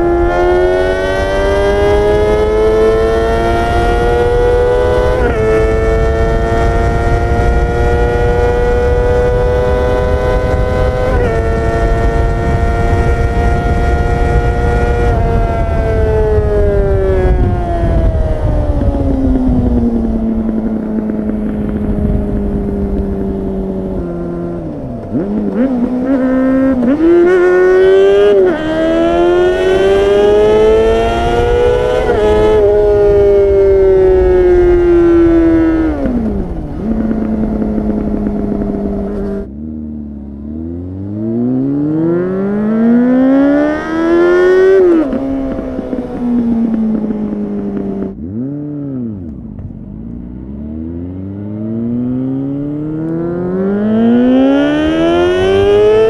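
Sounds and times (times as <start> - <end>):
wind on microphone: 0.0 - 39.6, 41.1 - 56.0
motorcycle engine revving: 0.0 - 56.0.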